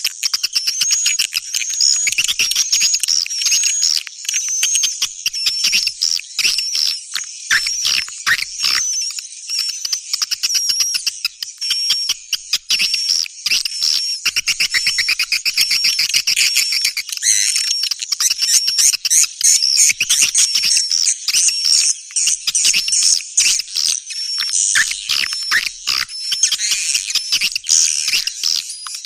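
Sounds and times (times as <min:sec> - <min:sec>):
rapid bird chirps and ticks: 0:00.0 - 0:29.0.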